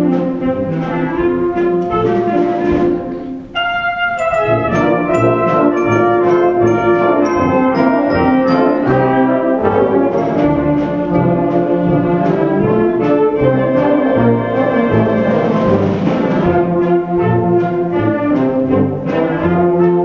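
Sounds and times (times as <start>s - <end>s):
live brass band playing: 0.0s - 20.0s.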